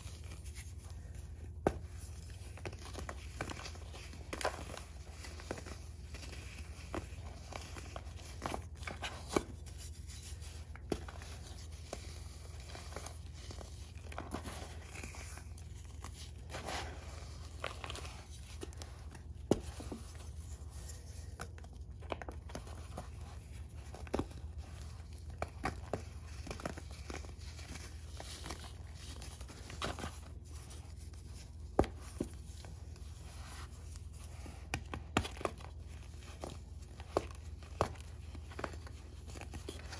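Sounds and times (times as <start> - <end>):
hands crumbling chalky blocks: 0.0 - 39.9.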